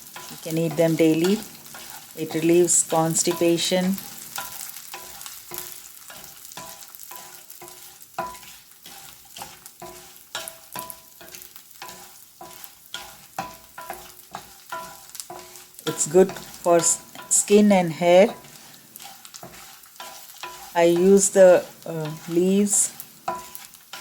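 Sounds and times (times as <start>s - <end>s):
faint sizzle: 0.0s - 24.0s
metal spoon scraping pan: 0.0s - 24.0s.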